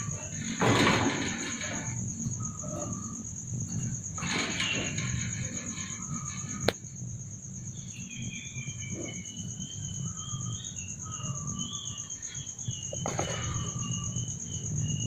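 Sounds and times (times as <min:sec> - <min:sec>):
high-pitched pulsing insect call: 0:00.0 - 0:15.0
small birds chirping: 0:01.6 - 0:15.0.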